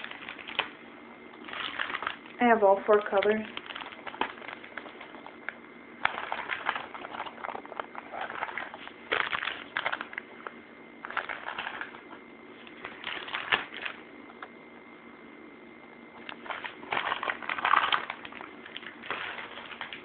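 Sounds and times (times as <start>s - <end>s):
packaging rustling and crackling: 0.0s - 0.8s, 1.4s - 2.4s, 3.0s - 14.1s, 16.2s - 20.0s.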